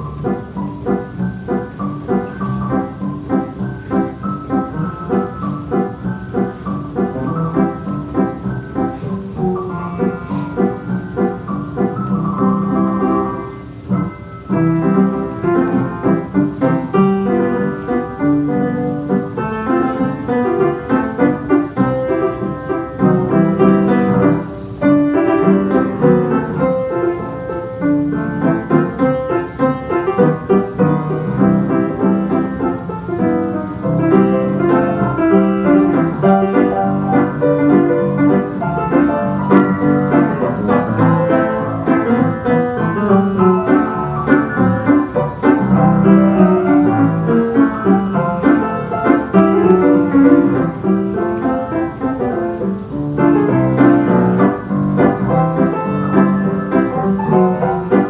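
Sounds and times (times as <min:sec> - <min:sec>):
piano music: 0:00.0 - 0:58.0.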